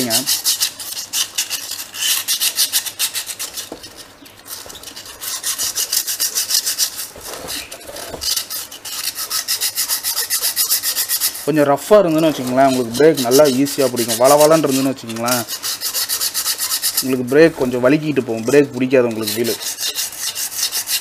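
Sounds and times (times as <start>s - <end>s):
sandpaper rasping on metal drum: 0.0s - 21.0s.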